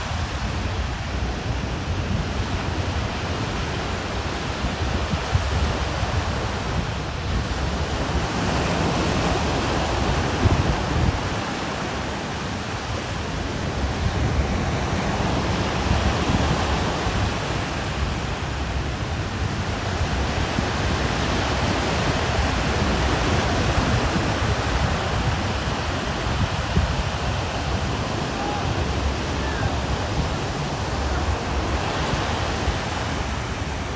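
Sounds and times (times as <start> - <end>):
surf washing onto beach: 0.0 - 33.9
wind buffeting microphone: 0.0 - 33.9.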